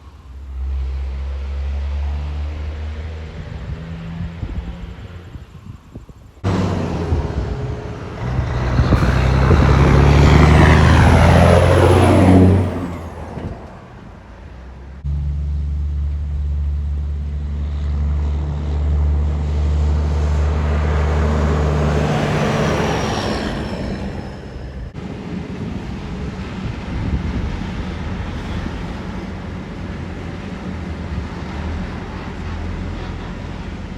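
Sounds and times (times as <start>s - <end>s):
heavy trucks driving past: 0.0s - 33.9s.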